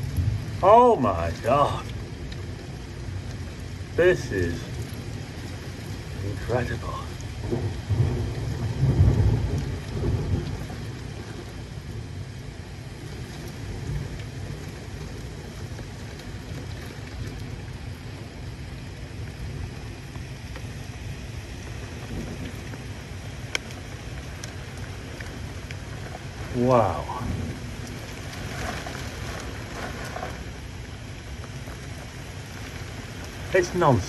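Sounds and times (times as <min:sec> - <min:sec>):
steady rain: 0:00.0 - 0:34.0
thunder rumbling: 0:00.0 - 0:34.0.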